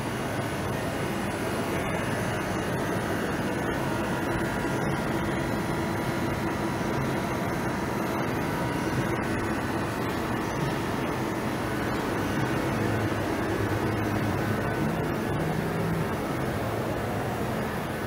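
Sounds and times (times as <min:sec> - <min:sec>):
faint steady hums: 0:00.0 - 0:18.0
production line machinery drone: 0:00.0 - 0:18.0.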